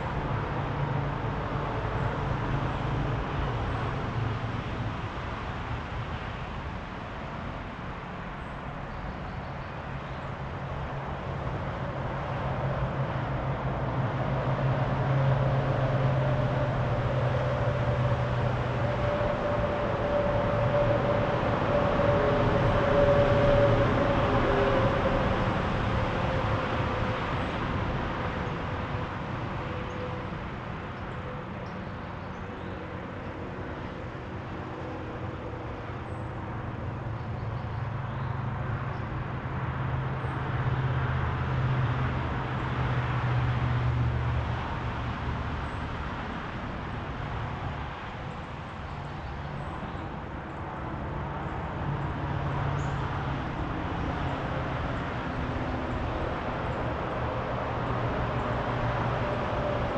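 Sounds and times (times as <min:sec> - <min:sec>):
low engine hum: 0:00.0 - 0:59.9
vehicle whine: 0:00.0 - 0:59.9
vehicles passing by: 0:00.0 - 0:59.9.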